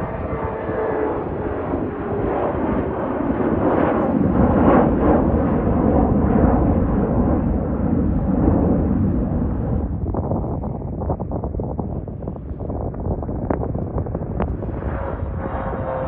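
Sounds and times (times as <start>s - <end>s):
faint jet whine: 0.0s - 10.9s, 11.7s - 16.0s
jet engine roar: 0.0s - 16.0s.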